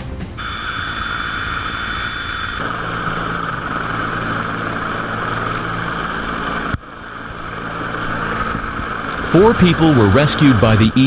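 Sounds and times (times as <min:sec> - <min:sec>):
helicopter running: 0:00.3 - 0:11.0
low hum: 0:00.3 - 0:11.0
high whine: 0:00.4 - 0:11.0.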